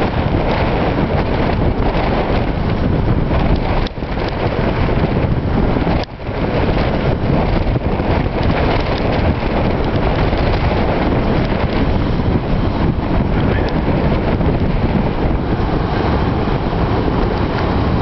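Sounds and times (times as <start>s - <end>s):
surf breaking on a beach: 0.0s - 18.0s
wind buffeting microphone: 0.0s - 18.0s.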